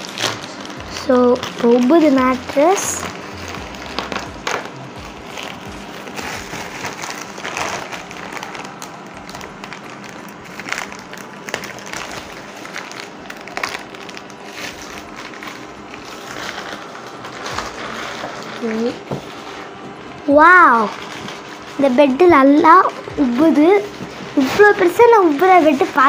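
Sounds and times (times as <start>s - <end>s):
plastic wrapping crinkling: 0.0s - 26.0s.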